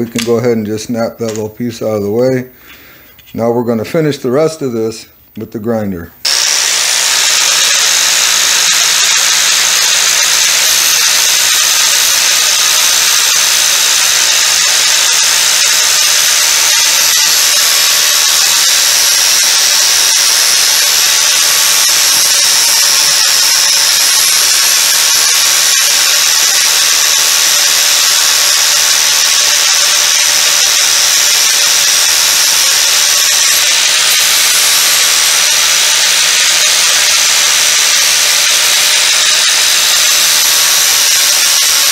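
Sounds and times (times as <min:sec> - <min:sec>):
angle grinder whining on wood: 0:06.2 - 0:41.9.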